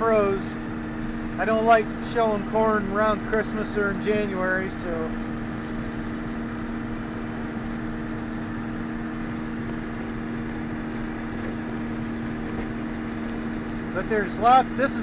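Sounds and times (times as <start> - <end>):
combine harvester running: 0.0 - 15.0.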